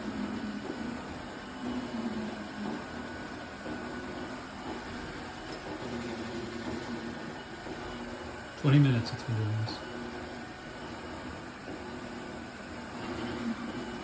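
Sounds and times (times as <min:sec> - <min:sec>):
robot vacuum motor hum: 0:00.0 - 0:14.0.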